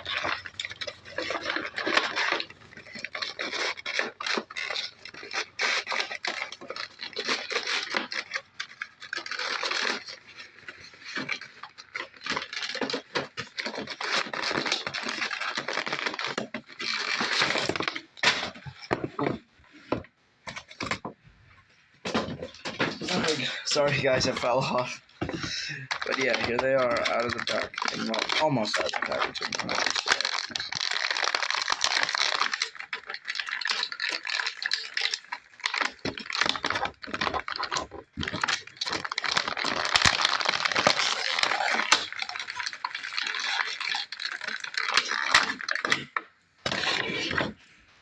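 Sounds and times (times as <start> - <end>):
packaging being torn open: 0.0 - 19.3, 22.5 - 47.6.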